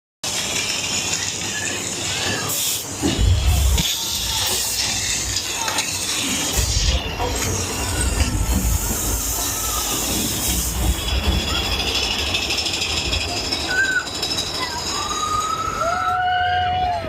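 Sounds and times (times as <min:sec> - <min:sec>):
roller coaster rumbling on track: 0:00.2 - 0:17.0.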